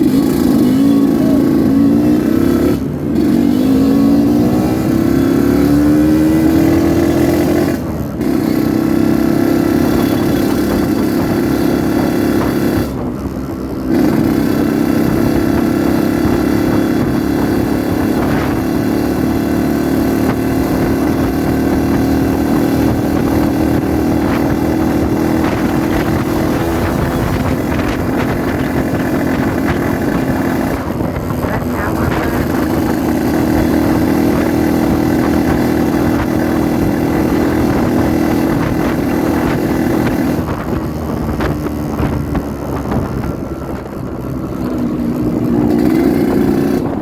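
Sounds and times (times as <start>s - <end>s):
two-stroke motorcycle engine: 0.0s - 47.0s.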